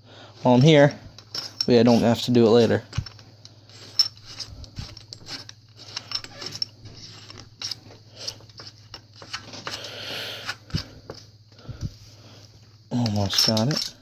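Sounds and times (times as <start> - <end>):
hand tool metal clicks and scrapes: 0.5 - 11.3, 12.9 - 14.0.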